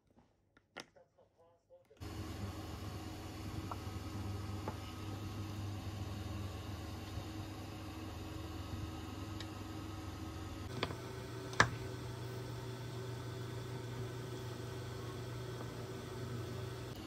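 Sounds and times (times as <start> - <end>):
induction hob humming: 2.0 - 17.0.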